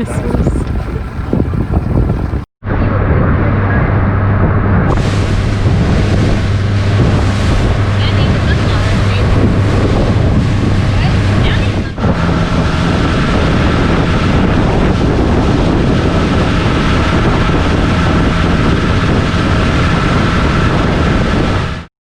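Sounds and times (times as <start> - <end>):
outboard motor running: 0.0 - 2.5, 4.9 - 21.8
water noise: 0.0 - 2.5, 4.6 - 21.9
wind: 0.0 - 21.9.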